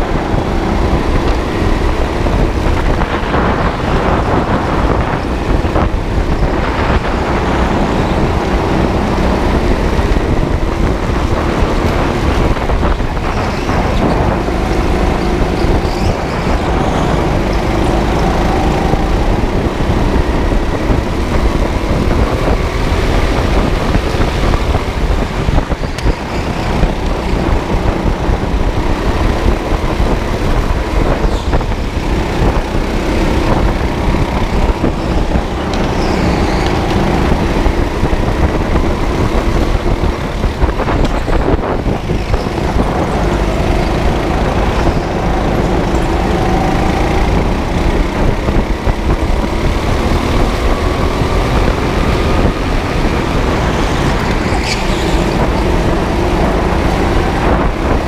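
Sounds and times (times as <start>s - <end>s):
go-kart motor whine: 0.0s - 58.0s
vibration and wind rumble: 0.0s - 58.0s.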